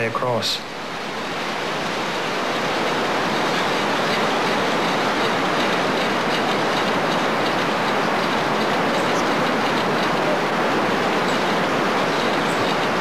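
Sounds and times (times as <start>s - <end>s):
river rushing roar: 0.0s - 13.0s.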